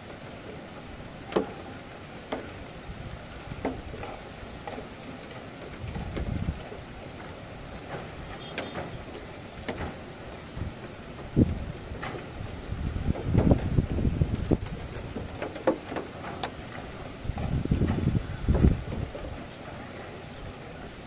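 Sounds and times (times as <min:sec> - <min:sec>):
rain and wind rushing hiss: 0:00.0 - 0:21.0
sharp rain taps: 0:00.0 - 0:21.0
wind gusts buffeting microphone: 0:00.0 - 0:21.0.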